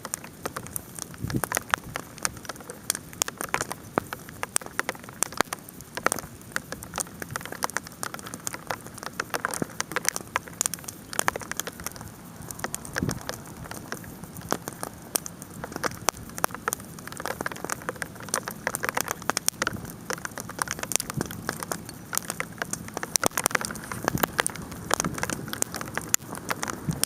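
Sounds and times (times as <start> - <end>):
bonfire crackling and popping: 0.0 - 27.0
hail pattering: 0.0 - 27.0
steady hiss: 0.0 - 27.0.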